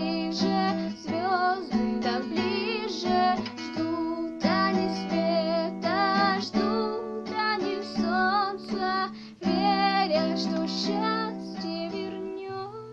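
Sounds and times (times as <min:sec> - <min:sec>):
acoustic guitar: 0:00.0 - 0:12.9
woman singing: 0:00.0 - 0:12.9.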